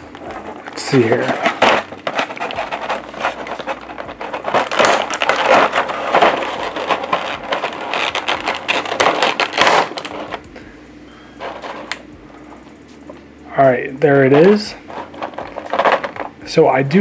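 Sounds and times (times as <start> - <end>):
plastic tray crinkling: 0.0 - 10.5, 11.4 - 12.6, 14.4 - 16.4.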